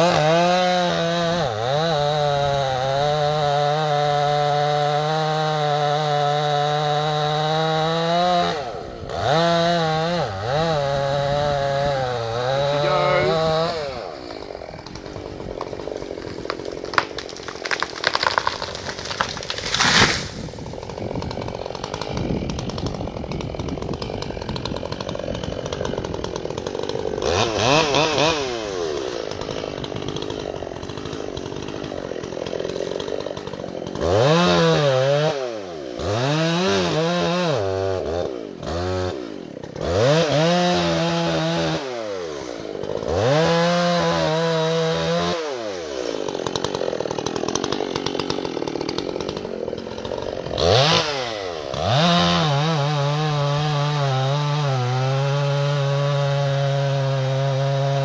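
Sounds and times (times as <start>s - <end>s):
chainsaw cutting and revving: 0.0s - 58.0s.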